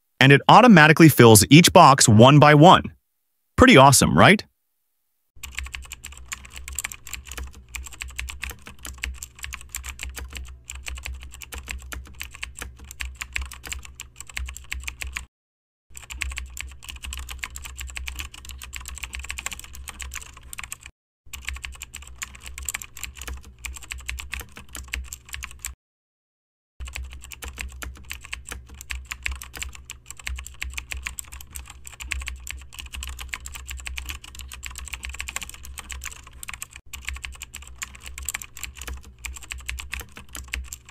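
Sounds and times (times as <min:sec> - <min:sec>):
fast typing on keyboard: 0:05.4 - 0:15.3, 0:16.0 - 0:25.8, 0:26.8 - 0:40.9.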